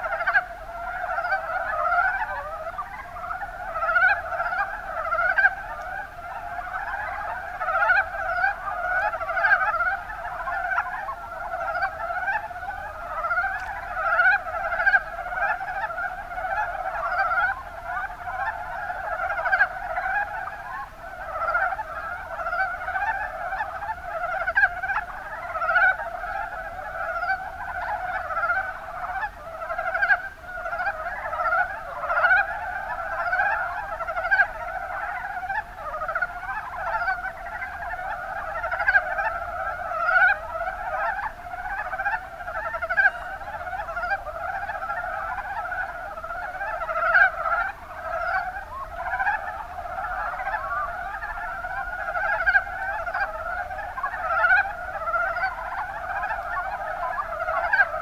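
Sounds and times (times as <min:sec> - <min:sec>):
frogs croaking in chorus: 0:00.0 - 0:58.0.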